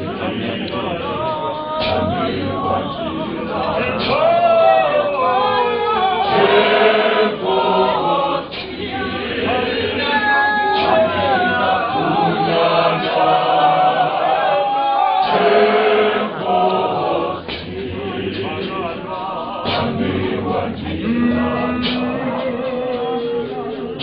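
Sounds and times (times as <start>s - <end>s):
congregation singing a hymn: 0.0s - 24.0s
sharp percussive stroke: 1.8s - 4.4s, 6.2s - 14.4s, 15.2s - 24.0s.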